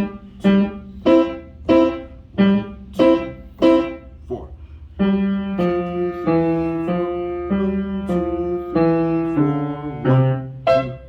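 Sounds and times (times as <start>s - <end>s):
simple piano melody: 0.0s - 11.0s
steady low hum: 0.0s - 11.0s.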